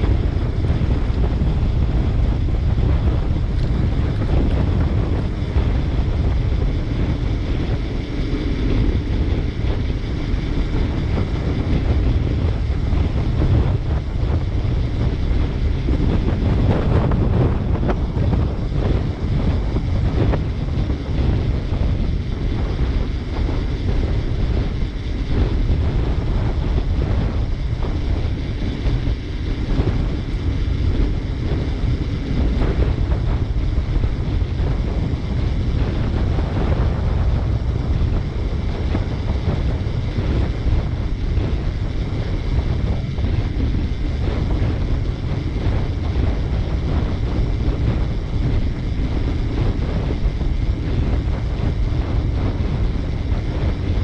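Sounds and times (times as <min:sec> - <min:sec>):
bicycle riding noise: 0:00.0 - 0:54.0
wind rushing over microphone: 0:00.0 - 0:54.0.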